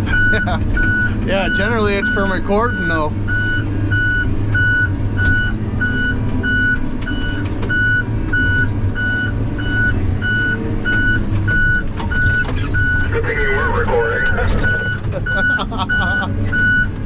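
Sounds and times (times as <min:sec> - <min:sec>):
diesel engine drone: 0:00.0 - 0:17.0
backup alarm beeping: 0:00.1 - 0:17.0.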